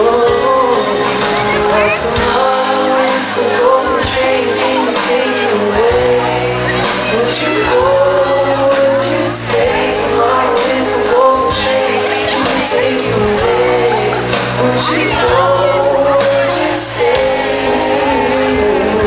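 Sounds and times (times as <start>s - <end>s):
audience shouting: 0.0s - 19.0s
drawn-out vocal melody: 0.0s - 19.0s
live music accompaniment: 0.0s - 19.0s.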